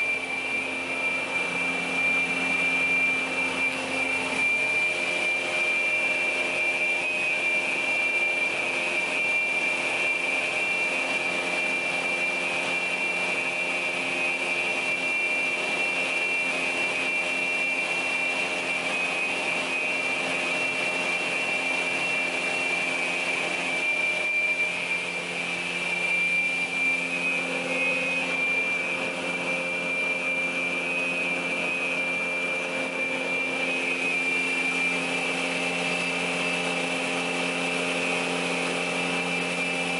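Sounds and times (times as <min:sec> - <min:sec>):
saw machine humming and whining: 0:00.0 - 0:39.9.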